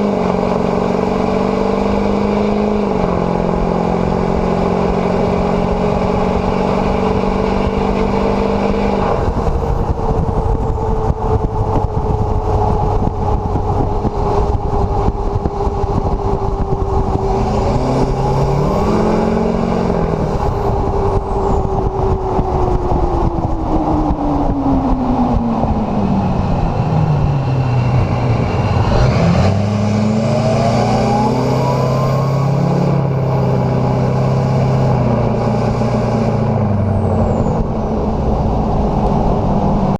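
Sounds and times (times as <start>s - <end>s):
loud diesel engine running: 2.4s - 39.9s.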